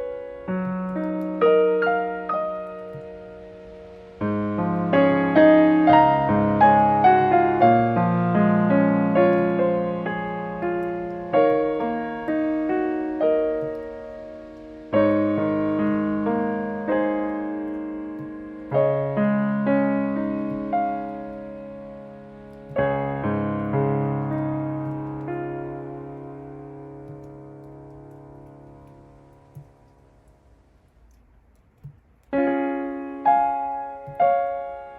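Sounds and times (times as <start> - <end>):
slow gentle piano music: 0.0 - 34.9.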